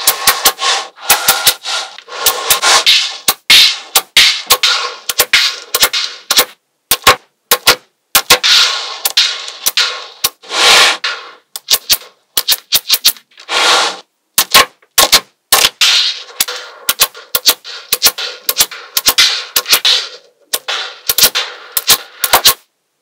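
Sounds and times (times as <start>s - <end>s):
magnetic balls clicking: 0.0s - 10.4s, 11.0s - 13.5s, 14.4s - 22.7s.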